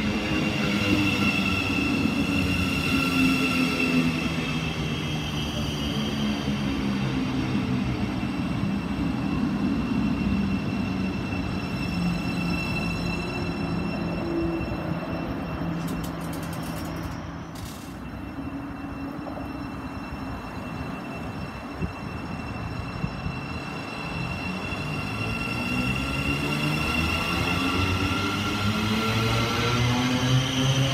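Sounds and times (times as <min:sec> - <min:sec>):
electric train rumbling: 0:00.0 - 0:30.9.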